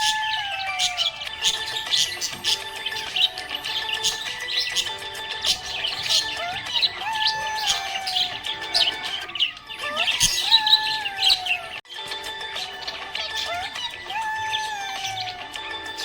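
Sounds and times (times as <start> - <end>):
background music with held notes: 0.0 - 16.0
parrots chirping: 0.0 - 16.0.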